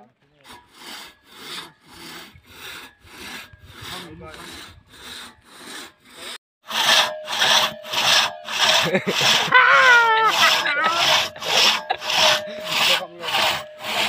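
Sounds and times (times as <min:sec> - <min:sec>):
crosscut saw cutting log: 0:00.4 - 0:14.0.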